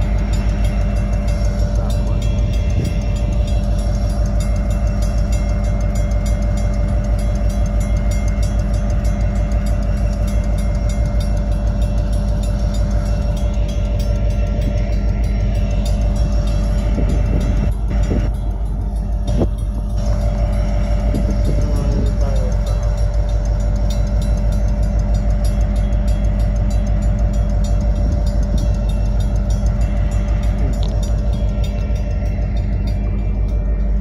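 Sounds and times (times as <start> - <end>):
constant pitched hum: 0.0 - 34.0
train wheels rumbling on rail: 0.0 - 34.0.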